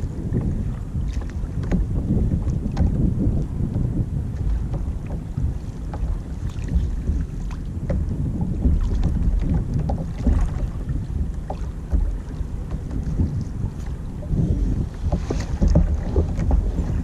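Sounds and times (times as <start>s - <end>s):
water slapping against kayak hull: 0.0s - 17.0s
wind buffeting microphone: 0.0s - 17.0s.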